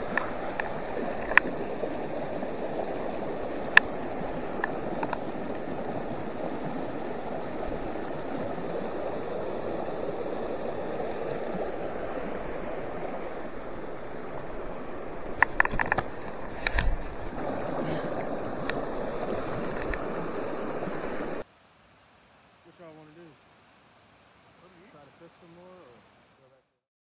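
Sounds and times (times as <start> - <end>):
stream rushing over stones: 0.0 - 26.6.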